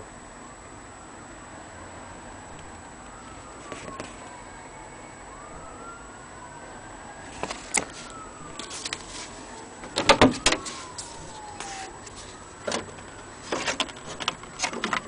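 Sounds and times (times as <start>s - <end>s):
distant siren wailing: 0.0s - 13.4s.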